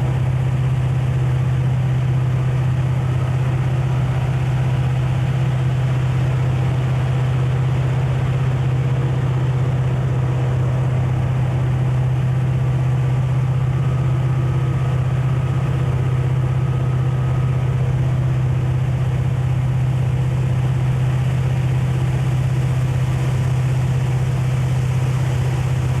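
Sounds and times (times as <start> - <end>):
diesel locomotive engine hum: 0.0 - 26.0.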